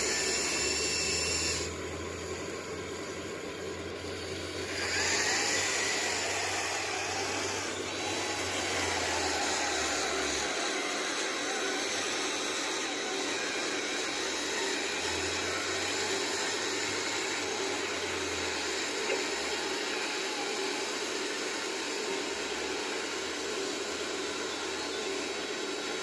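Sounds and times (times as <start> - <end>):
heavy machine engine running: 0.0 - 26.0.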